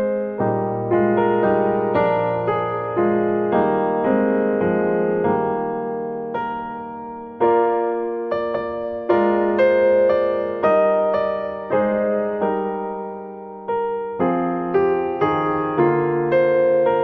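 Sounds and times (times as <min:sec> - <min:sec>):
gentle piano chords: 0:00.0 - 0:17.0.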